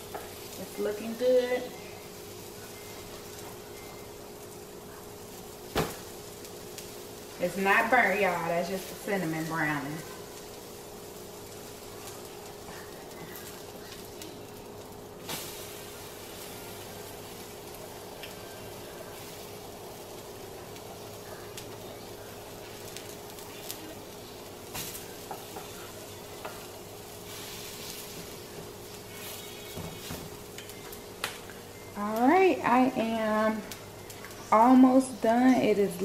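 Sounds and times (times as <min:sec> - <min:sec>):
bread sizzling in butter: 0:00.0 - 0:36.0
faint steady hum: 0:00.0 - 0:36.0.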